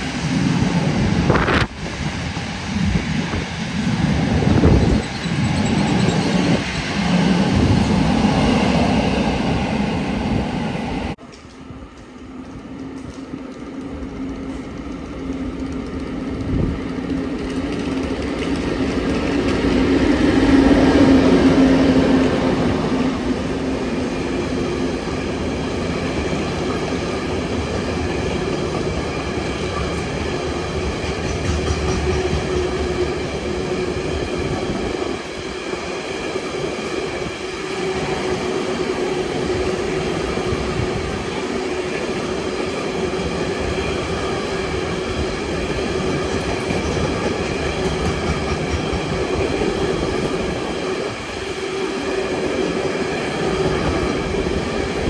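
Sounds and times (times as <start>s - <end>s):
train wheels rumbling and rattling: 0.0s - 55.0s.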